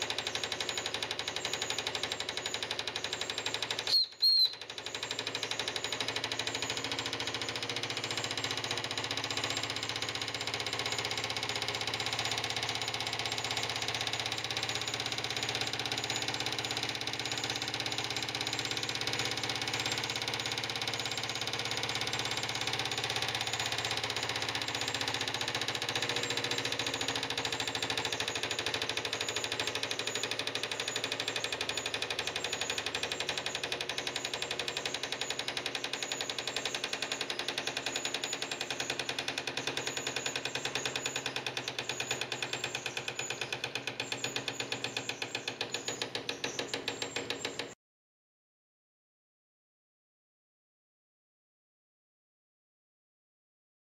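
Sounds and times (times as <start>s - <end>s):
rapid mechanical clatter: 0.0s - 47.8s.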